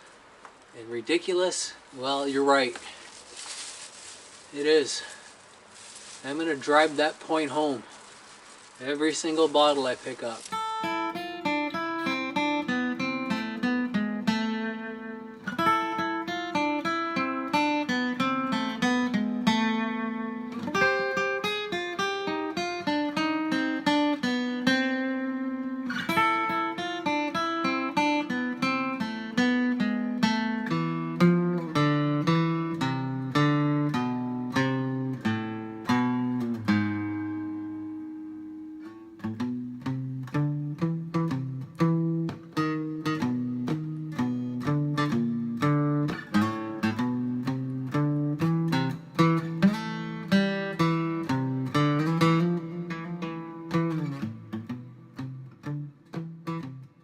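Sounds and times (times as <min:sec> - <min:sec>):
acoustic guitar fingerpicking: 0:10.2 - 0:57.0.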